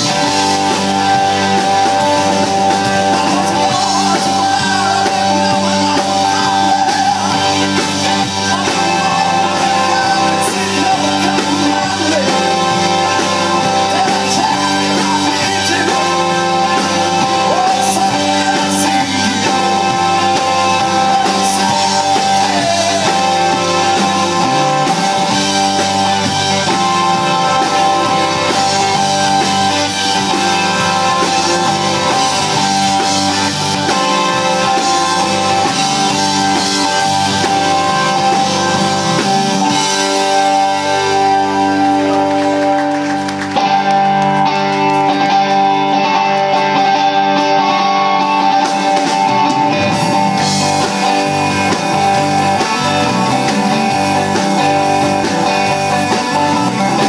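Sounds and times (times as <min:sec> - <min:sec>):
drum kit: 0:00.0 - 0:57.0
electric bass: 0:00.0 - 0:57.0
electric guitar: 0:00.0 - 0:57.0.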